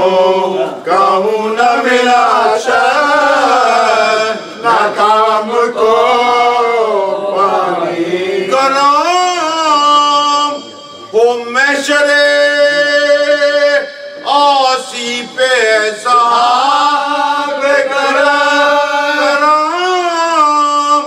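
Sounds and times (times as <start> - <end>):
man chanting a mourning lament: 0.0 - 17.6, 18.2 - 21.0.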